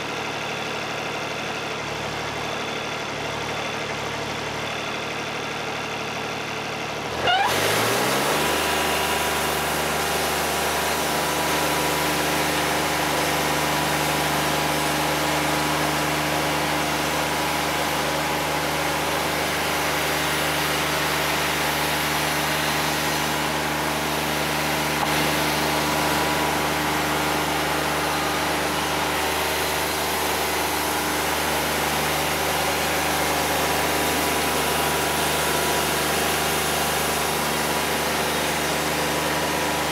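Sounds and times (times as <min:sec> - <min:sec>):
sawmill engine revving: 0:00.0 - 0:39.9.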